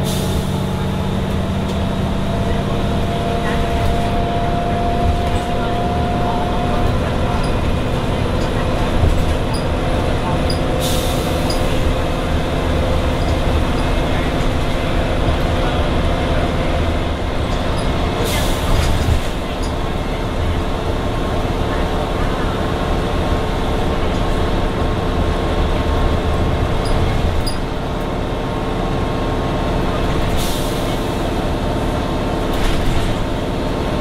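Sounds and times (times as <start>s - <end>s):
bus engine running: 0.0s - 34.0s
road noise: 0.0s - 34.0s.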